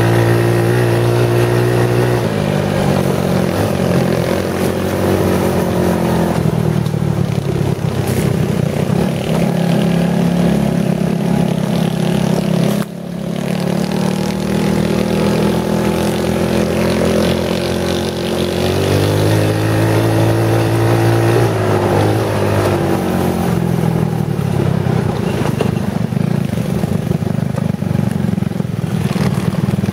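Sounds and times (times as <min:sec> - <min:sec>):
off-road vehicle engine: 0:00.0 - 0:29.9.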